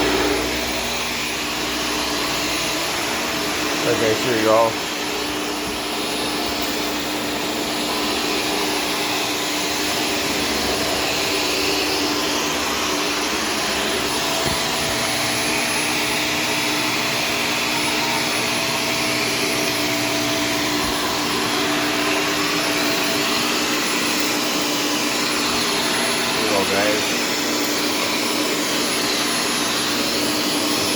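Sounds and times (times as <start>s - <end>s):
vacuum cleaner motor humming: 0.0s - 30.9s.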